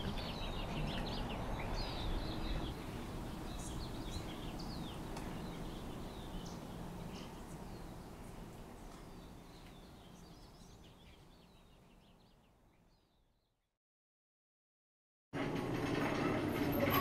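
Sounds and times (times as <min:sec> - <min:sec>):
low outdoor hum: 0:00.0 - 0:12.9, 0:15.4 - 0:17.0
small birds chirping: 0:00.0 - 0:13.6.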